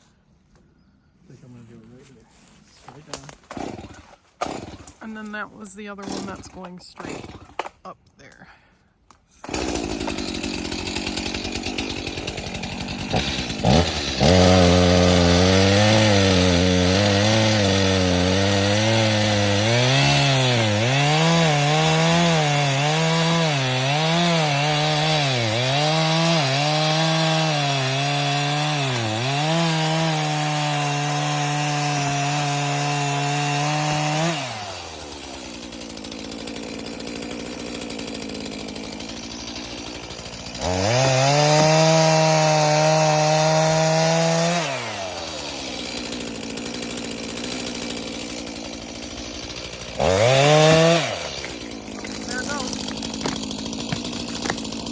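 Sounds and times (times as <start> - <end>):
chainsaw cutting tree trunk: 2.3 - 7.8, 9.3 - 54.9.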